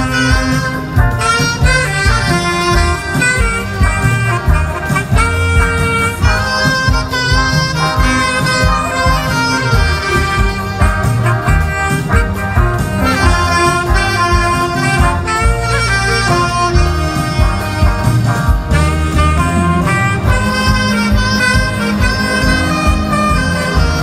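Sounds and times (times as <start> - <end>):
saxophone-led jazz band: 0.0 - 24.0
steady drum beat: 0.0 - 24.0.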